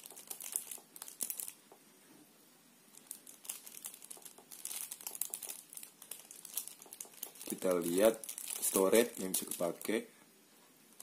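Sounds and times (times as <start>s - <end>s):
faint crackling and rustling: 0.0s - 11.0s.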